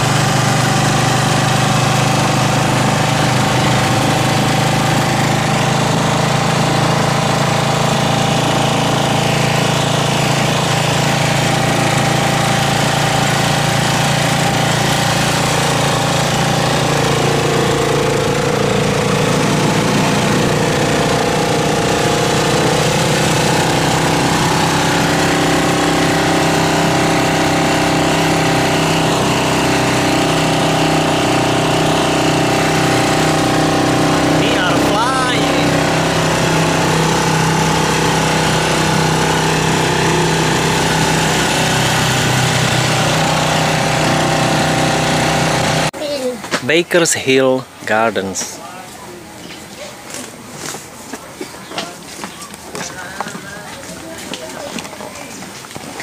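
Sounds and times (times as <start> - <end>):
motorcycle engine droning: 0.0 - 46.1.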